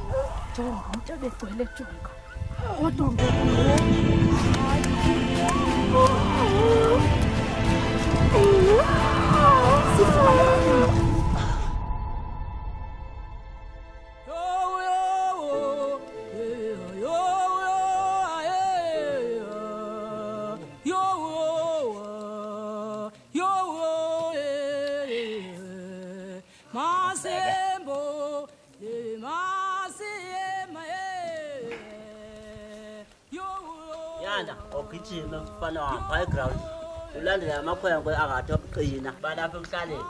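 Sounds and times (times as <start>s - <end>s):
person singing slow melody: 2.6s - 12.2s, 14.2s - 37.8s.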